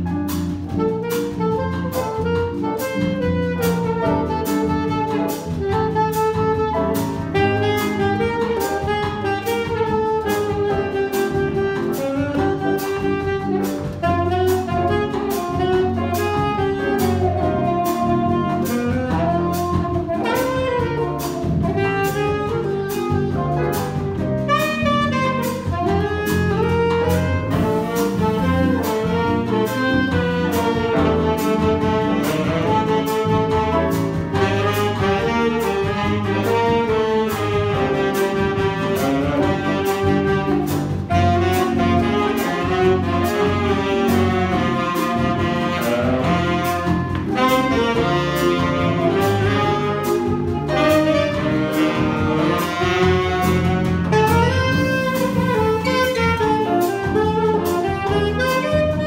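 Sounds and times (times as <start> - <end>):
jazz combo playing bossa nova: 0.0 - 59.0.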